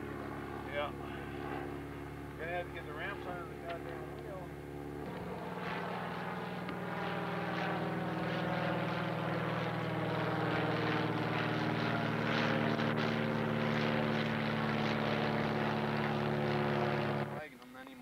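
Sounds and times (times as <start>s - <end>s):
propeller airplane engine drone: 0.0s - 18.0s.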